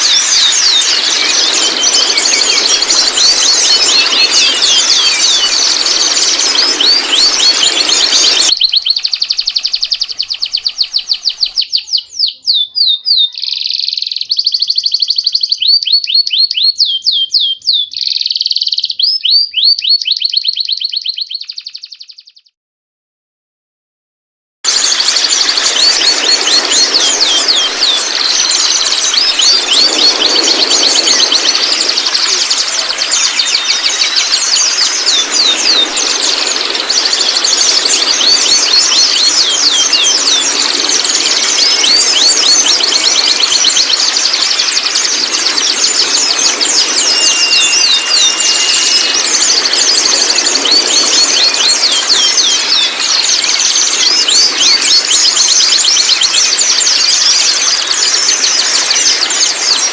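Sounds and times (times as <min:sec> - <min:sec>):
birds rapid rattling call: 0:00.0 - 0:22.1, 0:24.7 - 0:59.9
bird gliding whistles: 0:00.0 - 0:22.4, 0:24.7 - 0:59.9.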